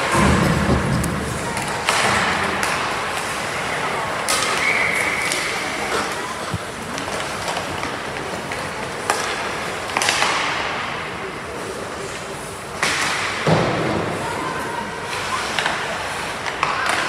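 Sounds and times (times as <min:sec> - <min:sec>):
hockey sticks clacking: 0:00.0 - 0:14.3, 0:15.1 - 0:17.0
skates scraping ice: 0:00.0 - 0:17.0.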